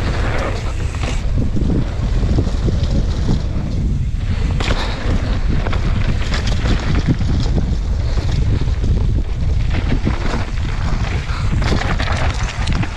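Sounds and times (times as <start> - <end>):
bike clicks and rattles: 0.0 - 12.9
bike tyres rumbling over gravel: 0.0 - 12.9
wind noise on microphone: 0.0 - 12.9.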